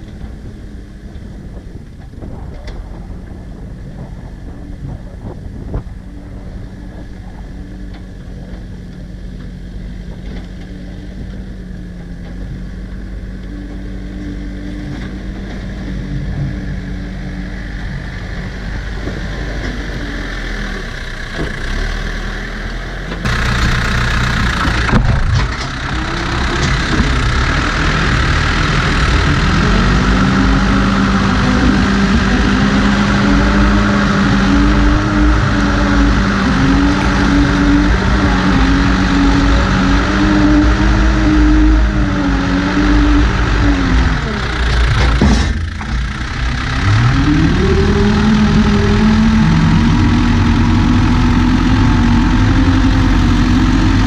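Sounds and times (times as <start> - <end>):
diesel engine working under load: 0.0 - 54.0
loader bucket pushing dirt: 0.0 - 54.0.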